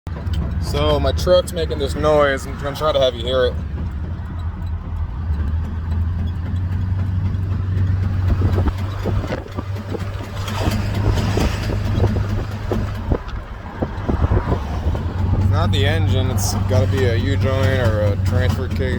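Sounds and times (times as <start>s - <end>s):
irregular clunks: 0.1s - 18.9s
truck engine droning: 0.1s - 18.9s.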